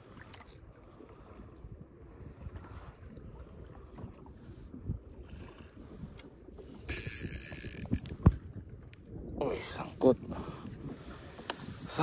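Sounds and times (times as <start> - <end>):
waves lapping against a kayak hull: 0.0 - 12.0
wind rumbling on microphone: 0.0 - 12.0.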